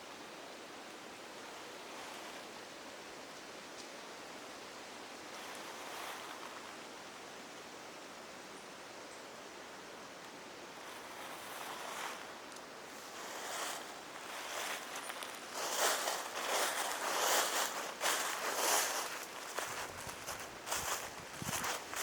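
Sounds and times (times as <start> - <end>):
soft rushing forest noise: 0.0 - 22.0.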